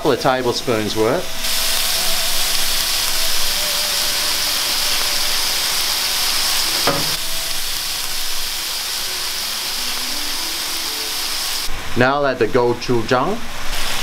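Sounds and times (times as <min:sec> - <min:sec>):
meat sizzling in a frying pan: 0:00.4 - 0:11.7, 0:13.7 - 0:14.0.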